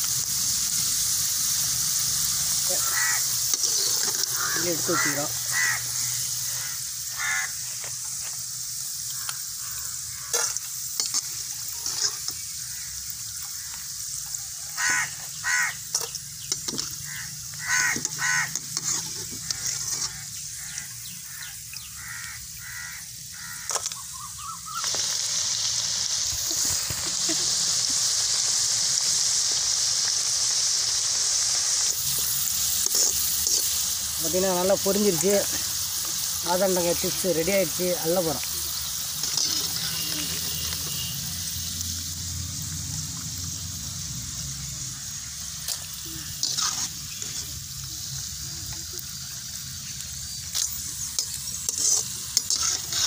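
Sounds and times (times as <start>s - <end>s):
frying in hot oil sizzle: 0.0s - 53.0s.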